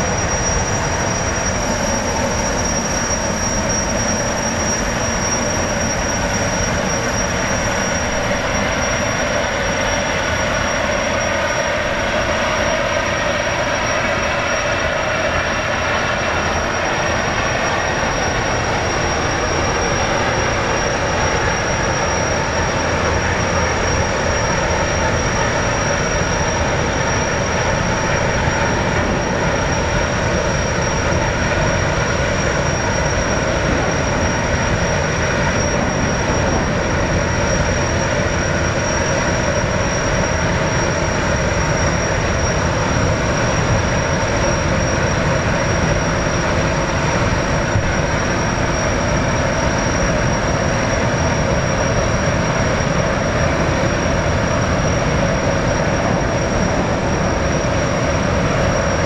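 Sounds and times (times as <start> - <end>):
gas turbines whining: 0.0 - 59.0.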